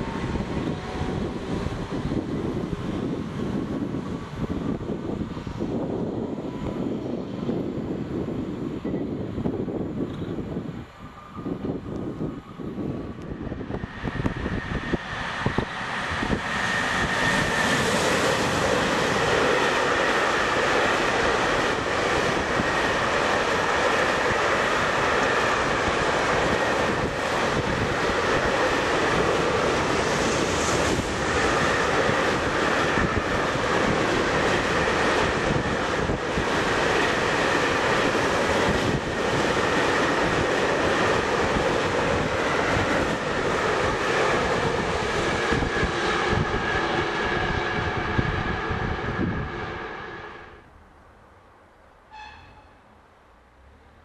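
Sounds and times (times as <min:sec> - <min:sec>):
train wheels rolling on rails: 0:00.0 - 0:50.4.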